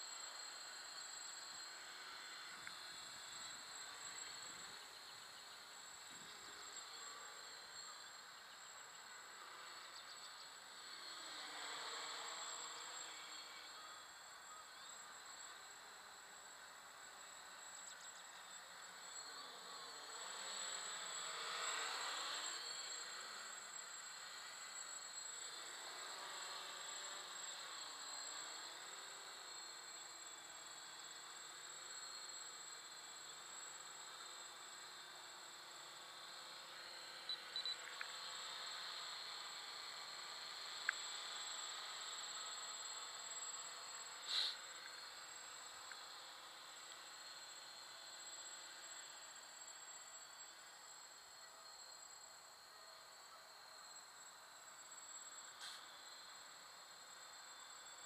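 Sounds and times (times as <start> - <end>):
distant drone motors buzzing: 0.1 - 50.4.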